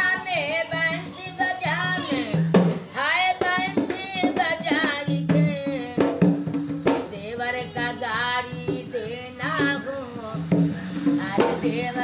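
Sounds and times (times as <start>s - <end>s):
hand drum beats: 0.0s - 12.0s
old woman singing: 0.0s - 12.0s.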